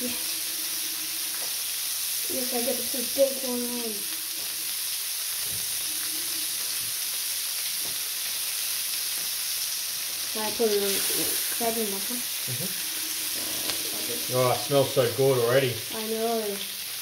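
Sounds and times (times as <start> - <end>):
fish sizzling on a griddle: 0.0 - 17.0.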